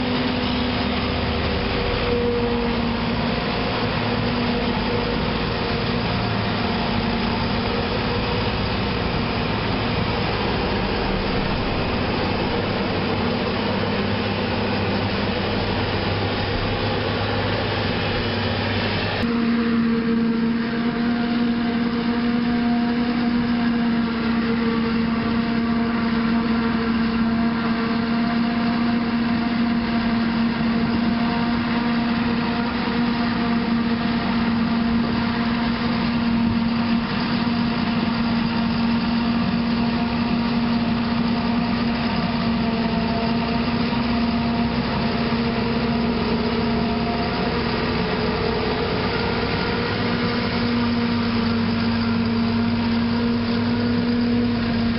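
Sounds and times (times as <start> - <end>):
farm machinery engines droning: 0.0 - 54.9.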